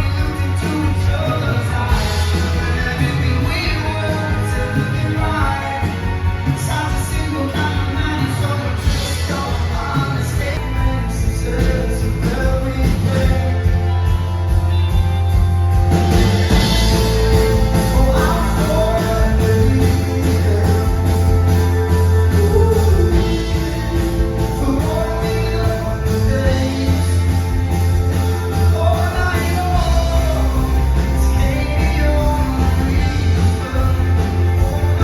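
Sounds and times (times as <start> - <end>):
heavy bass: 0.0 - 35.0
rock band playing live: 0.0 - 35.0
steady drums: 0.0 - 35.0.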